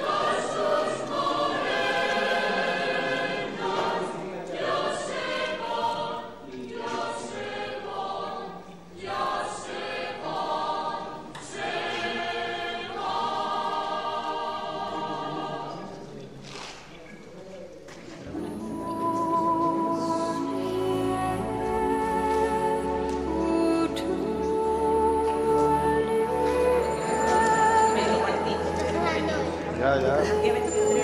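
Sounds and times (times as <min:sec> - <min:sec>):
choir singing: 0:00.0 - 0:16.4, 0:18.2 - 0:31.0.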